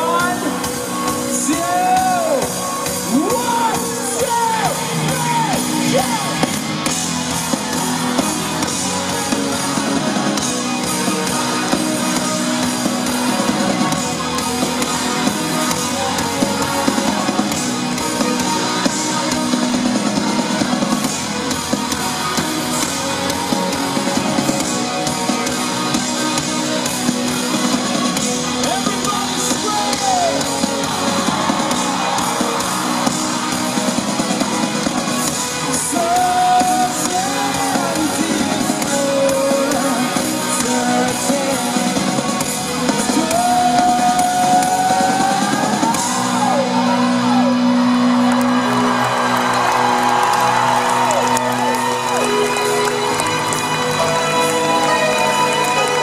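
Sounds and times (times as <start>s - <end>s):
drums: 0.0s - 56.0s
electric guitar: 0.0s - 56.0s
audience shouting: 1.3s - 40.0s, 40.6s - 56.0s.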